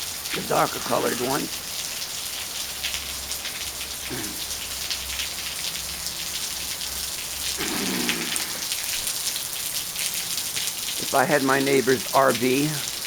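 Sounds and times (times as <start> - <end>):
raindrops striking close by: 0.0 - 13.0
steady rain falling: 0.0 - 13.0.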